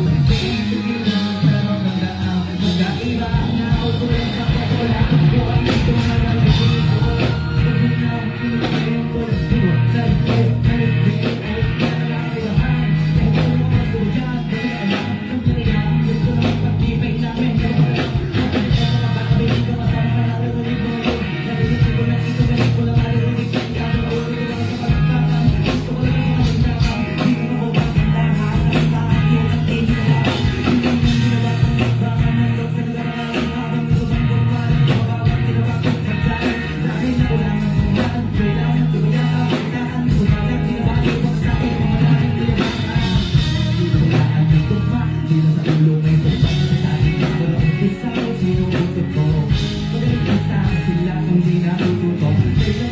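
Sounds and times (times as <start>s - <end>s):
bass-heavy backing beat: 0.0s - 52.9s
rapping over a beat: 0.0s - 52.9s.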